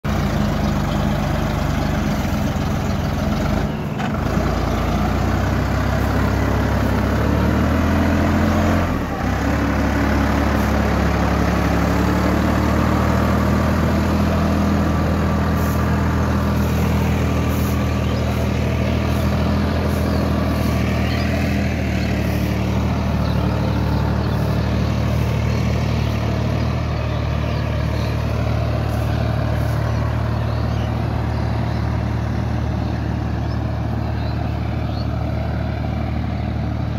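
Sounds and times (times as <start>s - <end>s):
tractor diesel engine under load: 0.0s - 36.9s.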